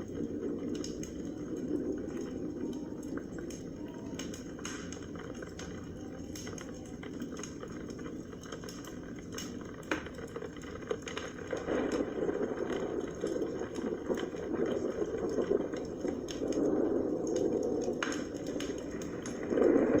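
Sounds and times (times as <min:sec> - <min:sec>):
fire crackles and pops: 0:00.0 - 0:20.0
wood fire rushing flame: 0:00.0 - 0:20.0.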